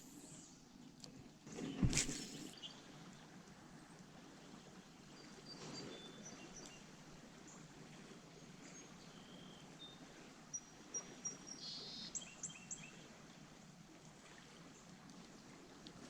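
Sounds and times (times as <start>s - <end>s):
faint riverside background: 0.0s - 16.0s.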